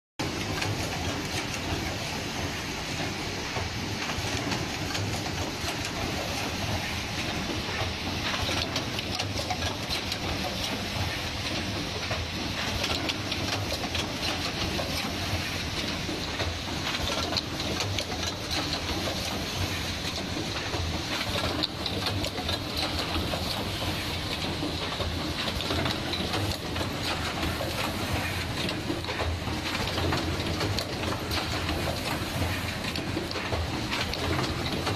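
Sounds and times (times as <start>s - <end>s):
machine clattering with rapid clicks: 0.2s - 34.9s.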